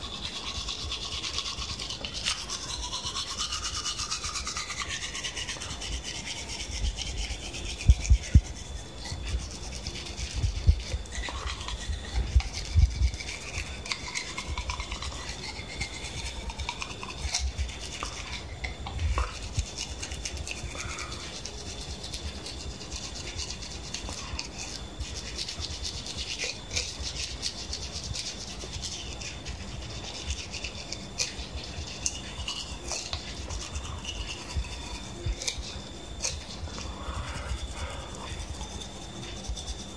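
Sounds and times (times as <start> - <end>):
toothbrush scrubbing teeth: 0.0 - 39.9.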